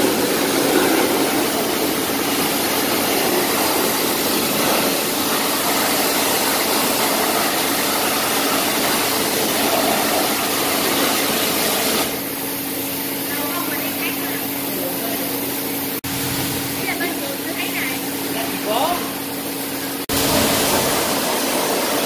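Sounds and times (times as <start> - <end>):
machine humming: 0.0 - 22.0
pressure washer spray hissing: 0.0 - 22.0.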